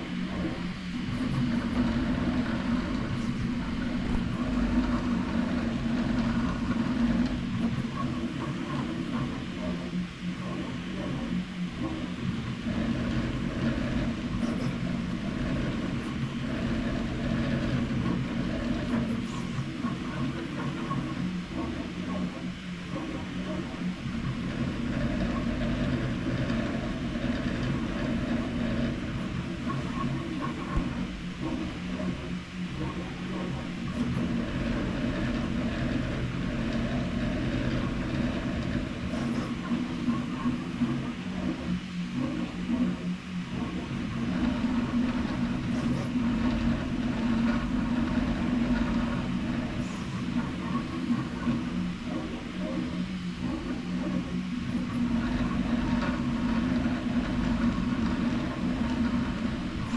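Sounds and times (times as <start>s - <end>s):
printer stepper motors whirring: 0.0s - 59.9s.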